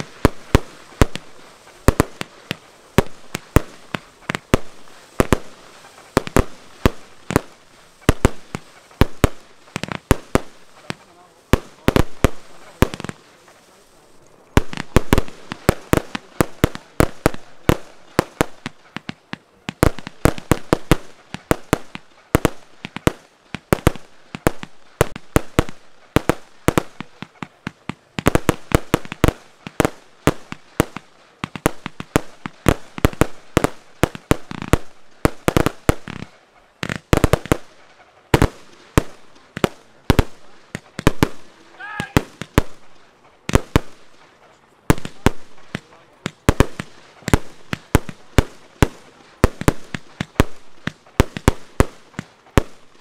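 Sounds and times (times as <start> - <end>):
fireworks bangs and pops: 0.0 - 53.0.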